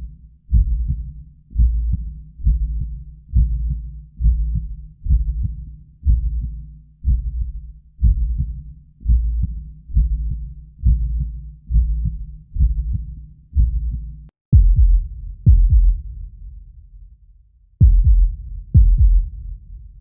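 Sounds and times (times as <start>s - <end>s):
heartbeat thumps: 0.5s - 16.6s, 17.8s - 20.0s.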